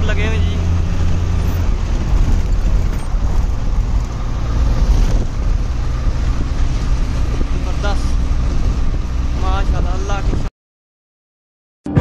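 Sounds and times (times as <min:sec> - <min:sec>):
vehicle driving on road: 0:00.0 - 0:10.5.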